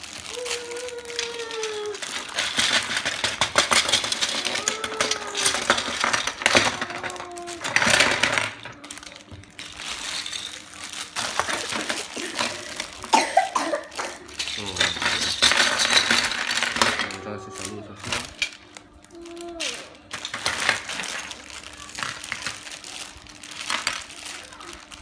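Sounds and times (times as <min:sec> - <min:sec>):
plastic bag crinkling: 0:00.0 - 0:25.0
plastic blocks clattering: 0:00.0 - 0:25.0.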